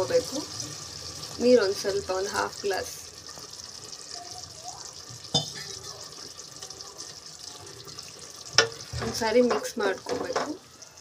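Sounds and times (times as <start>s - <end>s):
curry sizzling in a pot: 0.0s - 11.0s.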